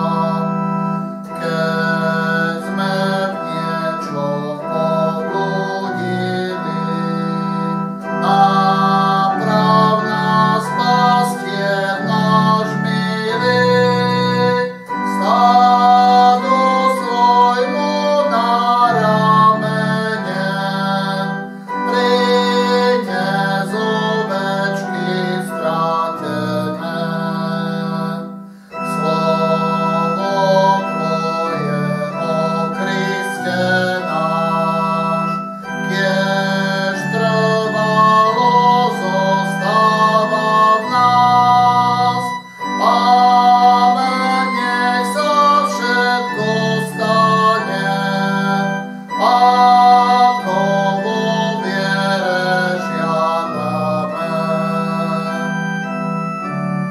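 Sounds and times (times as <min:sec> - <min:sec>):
voices singing: 0:00.0 - 0:55.9
electronic organ playing hymn: 0:00.0 - 0:56.9.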